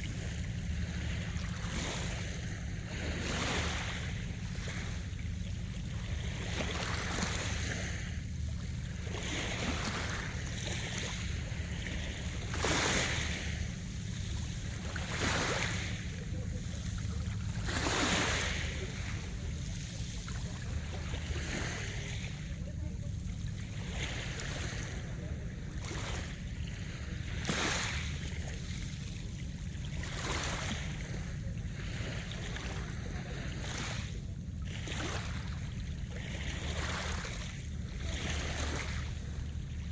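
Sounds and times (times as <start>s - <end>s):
sea waves breaking: 0.0s - 39.9s
steady low rumble: 0.0s - 39.9s.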